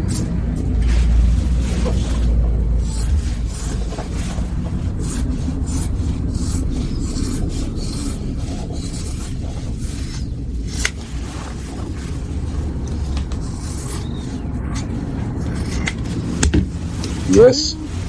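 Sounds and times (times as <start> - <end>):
steady low hum: 0.0 - 18.0
rasping rubbing on neoprene: 0.8 - 18.0.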